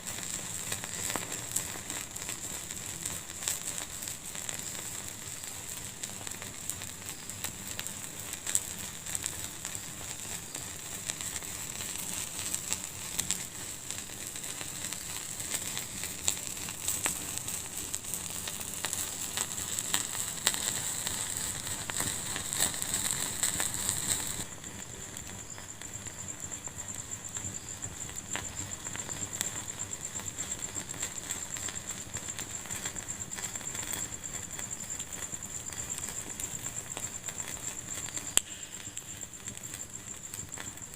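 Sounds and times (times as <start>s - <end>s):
steady hiss: 0.0s - 40.9s
wood fire crackling and popping: 0.0s - 40.9s.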